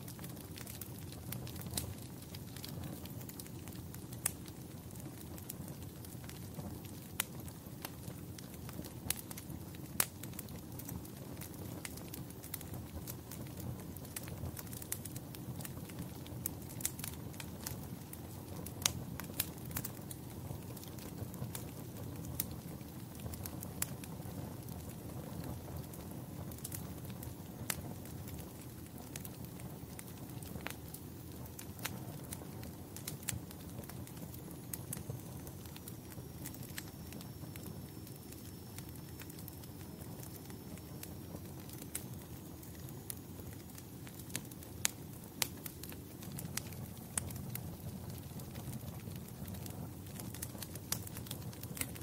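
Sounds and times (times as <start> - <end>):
fire crackling and popping: 0.0 - 52.0
low rumble of flames: 0.0 - 52.0.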